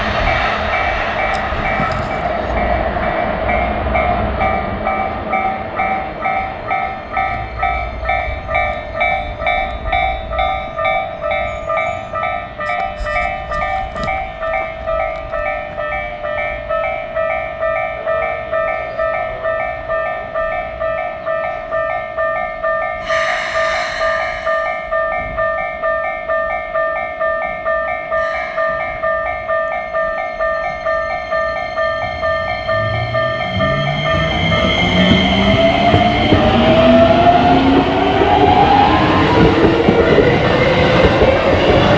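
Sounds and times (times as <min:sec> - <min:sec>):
low rumble of passing train: 0:00.0 - 0:41.9
railroad crossing bell ringing: 0:00.0 - 0:41.9.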